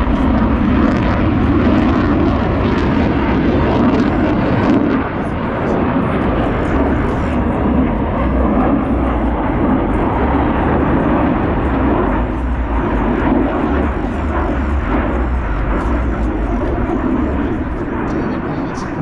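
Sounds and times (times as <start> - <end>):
jet flying overhead: 0.0 - 19.0.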